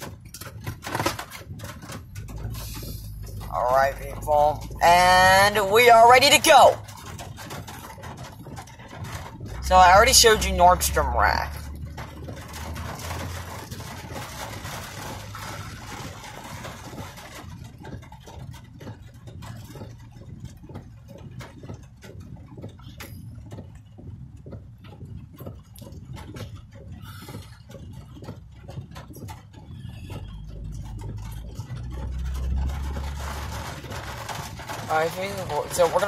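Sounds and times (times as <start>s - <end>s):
engine and road rumble: 0.0s - 36.0s
heavy rain on car roof: 0.0s - 36.0s.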